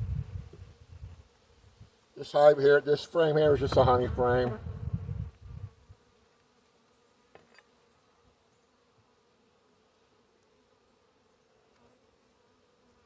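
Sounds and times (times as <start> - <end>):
honeybee colony humming: 0.0 - 13.0.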